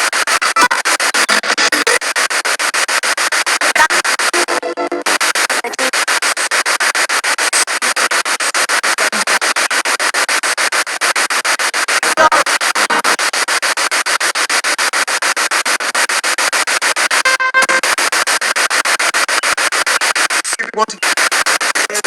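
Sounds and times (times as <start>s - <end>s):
pulsing radio static: 0.0s - 22.0s
snatch of radio broadcast: 0.0s - 22.0s.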